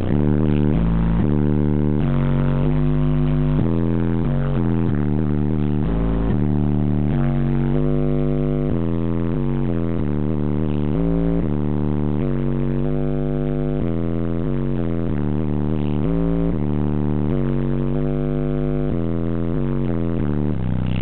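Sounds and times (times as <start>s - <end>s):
subwoofers playing bass-heavy music: 0.0s - 21.0s.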